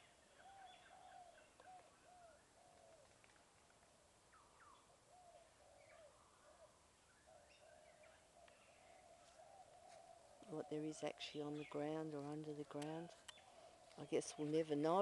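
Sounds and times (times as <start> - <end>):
faint whistled birdsong: 0.0 - 3.1, 4.3 - 11.8, 13.2 - 14.7.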